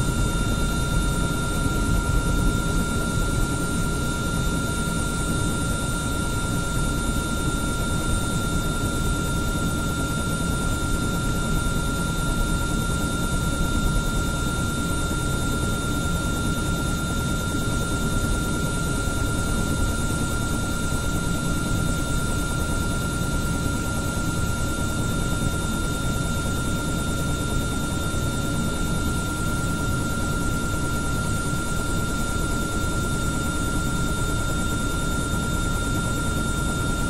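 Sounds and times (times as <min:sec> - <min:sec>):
helicopter high whine: 0:00.0 - 0:37.0.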